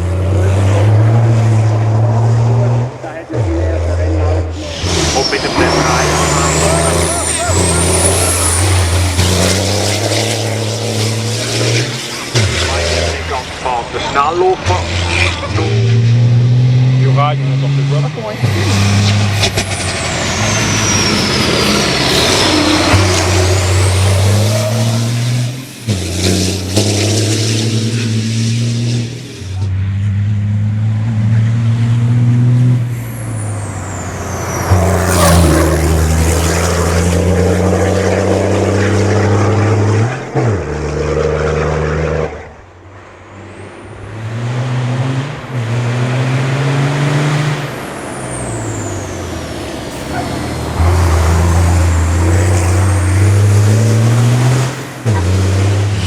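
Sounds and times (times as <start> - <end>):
racing truck engine revving: 0.0 - 56.0.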